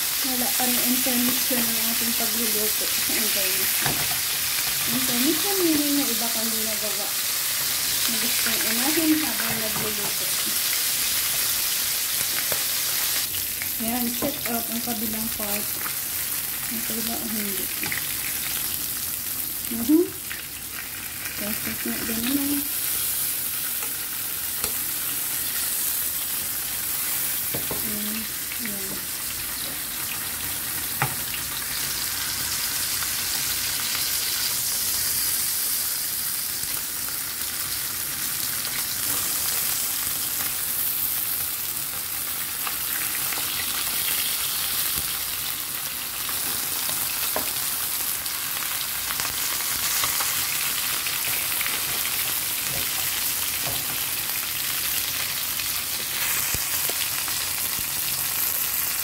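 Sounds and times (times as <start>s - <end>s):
fish sizzling in a pan: 0.0s - 59.0s.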